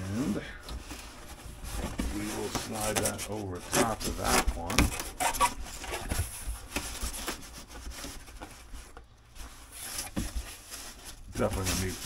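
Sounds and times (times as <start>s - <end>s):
cardboard boxes scraping: 0.0s - 12.0s.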